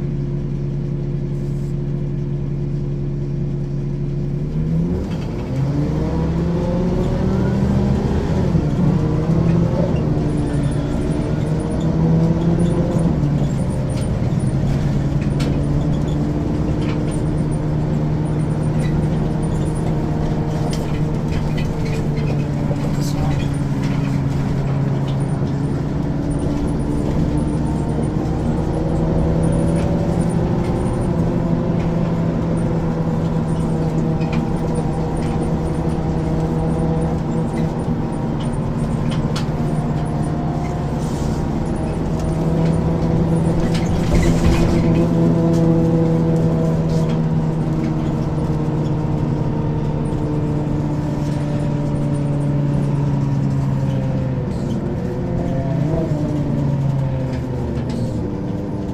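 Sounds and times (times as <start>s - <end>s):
bus engine running: 0.0s - 58.9s.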